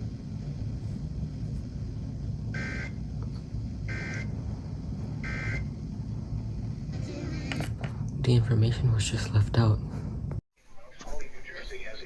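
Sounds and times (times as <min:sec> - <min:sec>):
low radio noise: 0:00.0 - 0:12.0.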